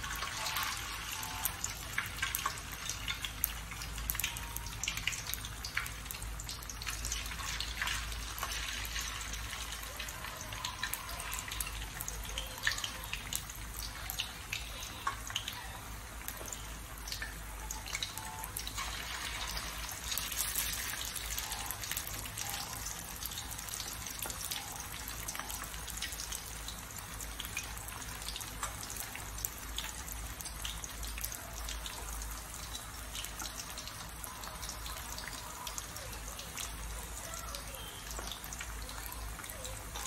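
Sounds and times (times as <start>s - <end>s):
fish cakes deep-frying in oil: 0.0s - 40.0s.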